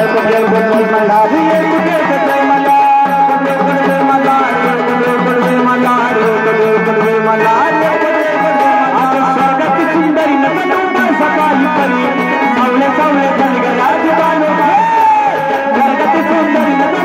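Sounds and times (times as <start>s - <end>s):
drums keeping steady beat: 0.0s - 17.0s
pitch-sliding folk melody: 0.0s - 17.0s.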